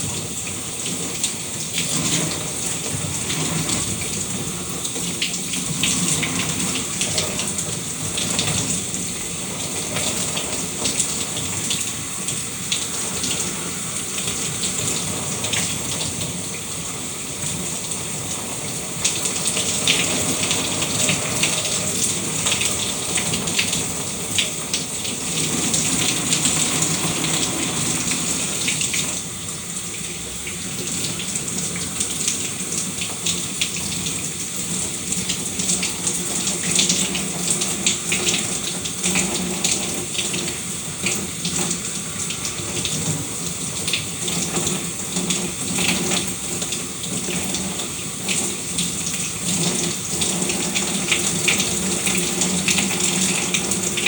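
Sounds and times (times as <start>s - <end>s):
shower water spraying: 0.0s - 54.0s.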